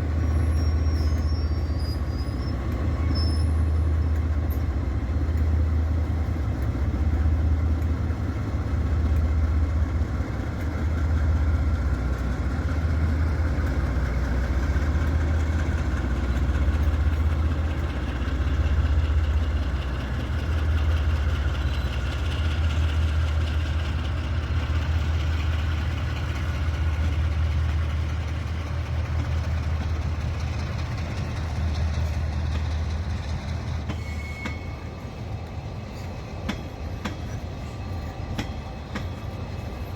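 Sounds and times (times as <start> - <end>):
locomotive engine deep hum: 0.0 - 39.9.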